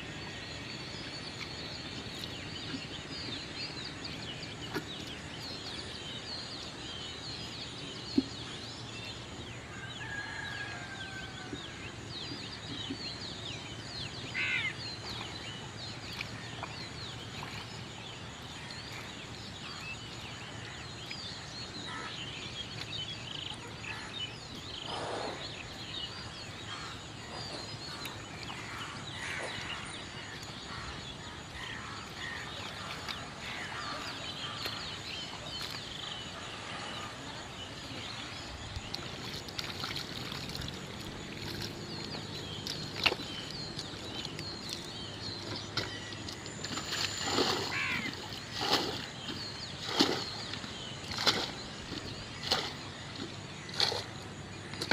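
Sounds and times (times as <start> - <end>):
small birds chirping: 0.0 - 9.3, 12.2 - 54.9.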